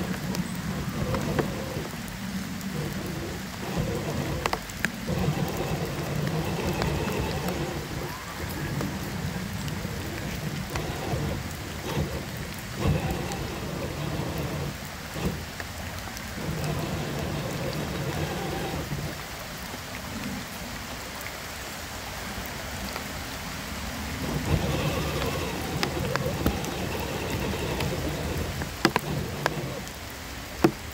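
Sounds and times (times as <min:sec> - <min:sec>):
toy car drivetrain rumble: 0:00.0 - 0:19.3, 0:24.1 - 0:30.8
rain-like water noise: 0:00.0 - 0:30.9.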